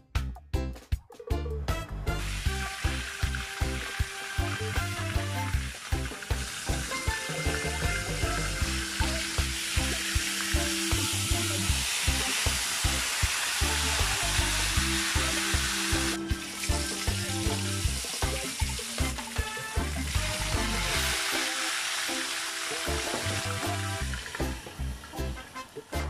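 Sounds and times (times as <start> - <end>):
background music with steady beat: 0.0 - 26.0
fish frying in hot oil: 2.1 - 26.0.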